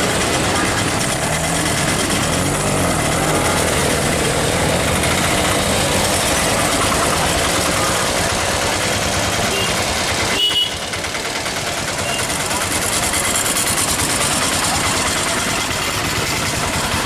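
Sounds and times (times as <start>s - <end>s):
auto-rickshaw engines idling: 0.0s - 17.0s
street traffic din: 0.0s - 17.0s.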